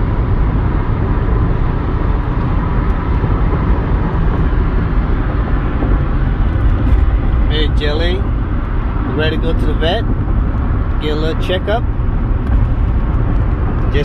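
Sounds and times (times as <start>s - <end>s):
road and wind noise in car: 0.0s - 14.0s.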